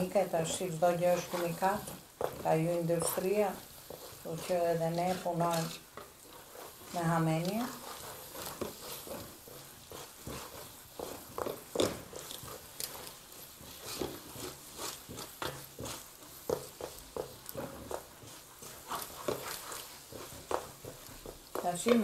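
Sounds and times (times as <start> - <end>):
wooden spoon squelching paste: 0.0 - 22.0.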